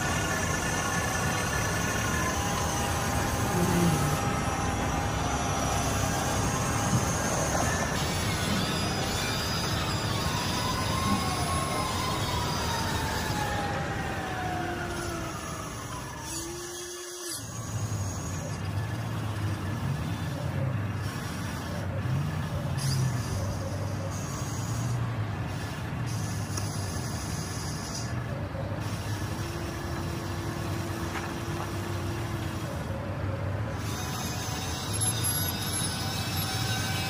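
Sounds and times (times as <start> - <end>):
model excavator rumbling: 0.0 - 37.0
thin motor whine: 0.0 - 37.0.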